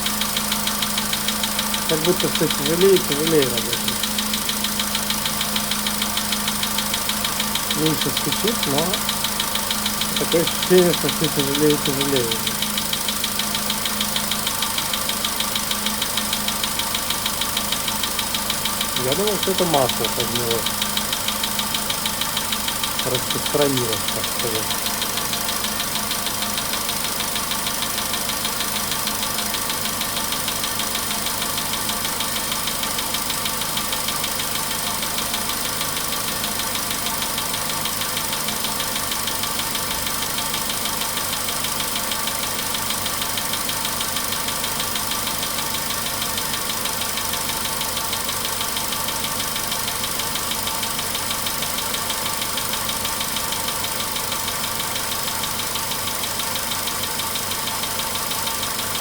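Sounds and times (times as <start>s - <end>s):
car engine idling with knock: 0.0s - 59.0s.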